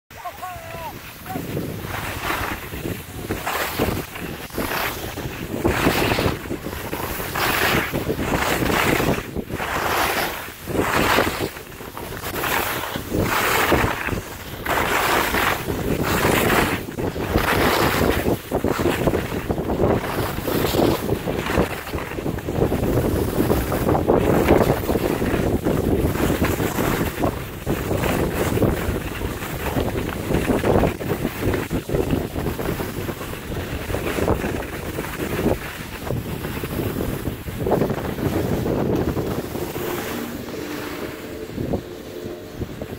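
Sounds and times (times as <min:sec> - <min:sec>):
skis scraping on packed snow: 0:00.2 - 0:42.9
wind noise on microphone: 0:00.2 - 0:42.9.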